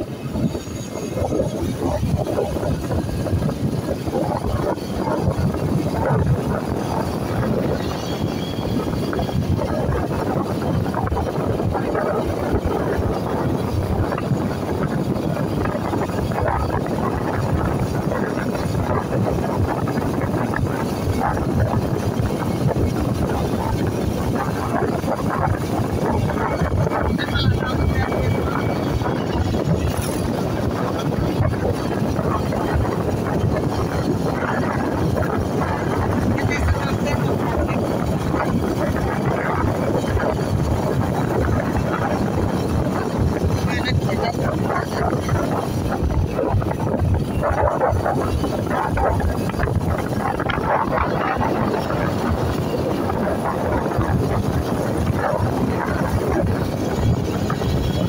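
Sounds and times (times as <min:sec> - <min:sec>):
vehicle rumble and road noise: 0:00.0 - 0:58.0
wind buffeting microphone: 0:00.0 - 0:58.0.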